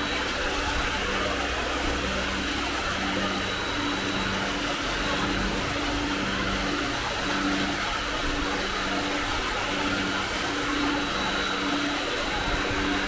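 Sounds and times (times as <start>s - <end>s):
motor-like drone with hiss: 0.0s - 13.0s.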